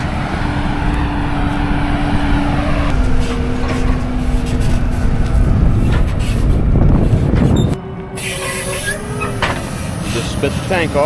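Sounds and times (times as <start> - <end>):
heavy low rumble: 0.0 - 11.0
tractor diesel engine running: 0.0 - 11.0.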